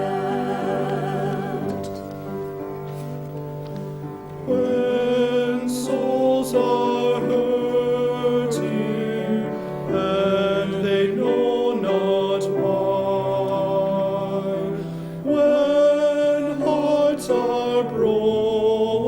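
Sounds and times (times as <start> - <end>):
person singing slow song: 0.0 - 2.9, 4.4 - 19.0
instrumental accompaniment: 0.0 - 19.0.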